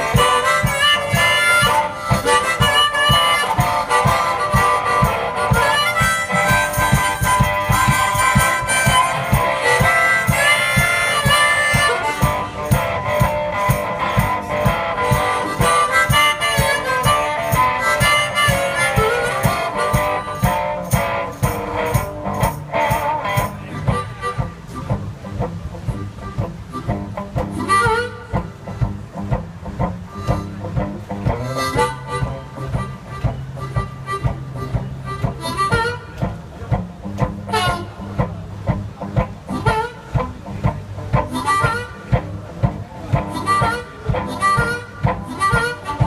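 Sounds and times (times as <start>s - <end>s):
harmonica: 0.0s - 36.8s, 37.4s - 46.0s
bass drum beat: 0.0s - 46.0s
strummed guitar: 0.0s - 46.0s.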